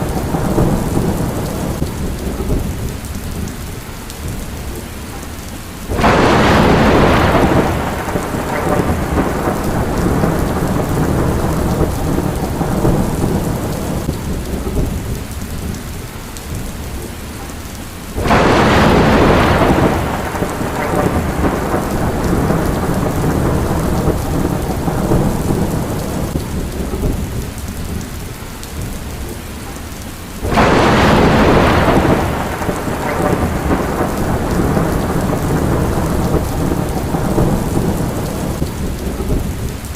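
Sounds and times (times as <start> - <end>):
heavy rain: 0.0 - 39.9
thunderclaps with low rumble: 0.0 - 39.9.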